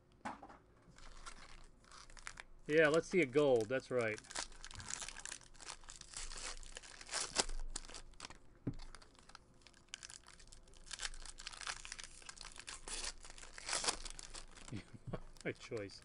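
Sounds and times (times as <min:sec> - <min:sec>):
plastic wrappers crinkling and tearing: 0:00.9 - 0:16.0.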